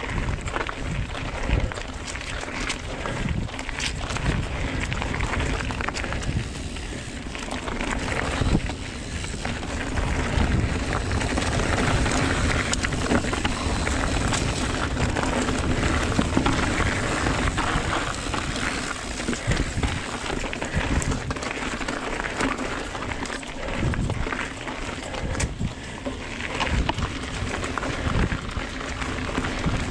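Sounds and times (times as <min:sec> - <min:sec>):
bike rattling over bumps: 0:00.0 - 0:29.9
bike tyres rolling over dirt: 0:00.0 - 0:29.9.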